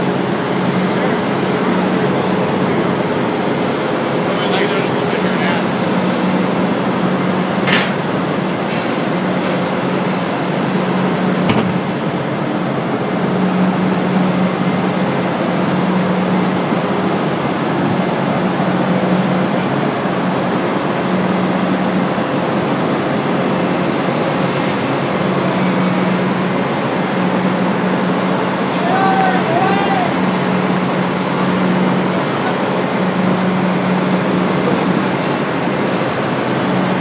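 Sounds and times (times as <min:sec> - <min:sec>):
industrial machinery drone: 0:00.0 - 0:37.0.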